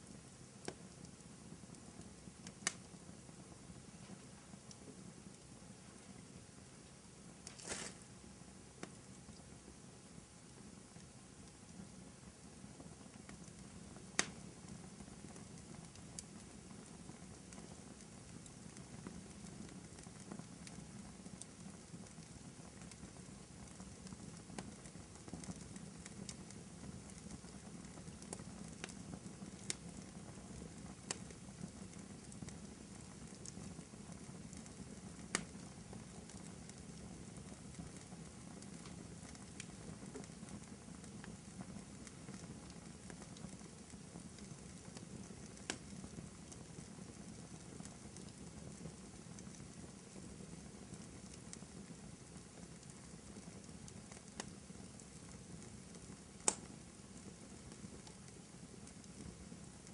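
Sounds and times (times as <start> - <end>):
fireplace crackling: 0.0 - 59.9.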